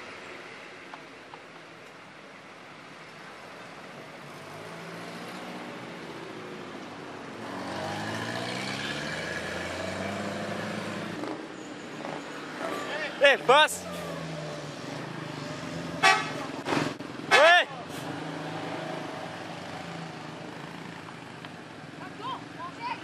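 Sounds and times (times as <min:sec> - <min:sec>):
vehicle engines working uphill: 0:00.0 - 0:23.0.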